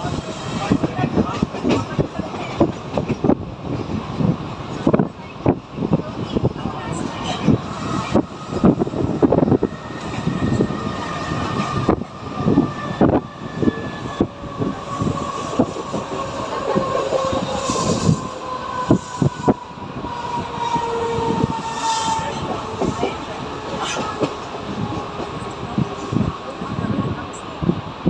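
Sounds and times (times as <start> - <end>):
steady train whine: 0.0 - 28.0.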